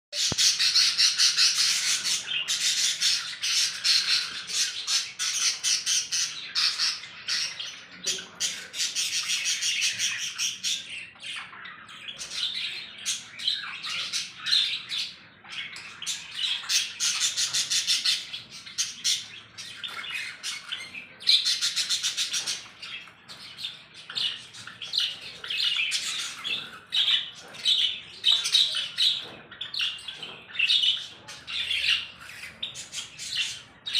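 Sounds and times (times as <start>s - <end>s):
small birds chattering: 0.1s - 33.9s.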